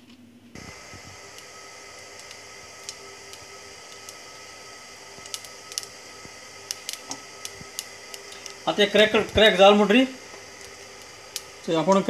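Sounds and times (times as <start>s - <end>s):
faint steady hum: 0.0s - 12.0s
seeds popping in hot oil: 0.6s - 12.0s.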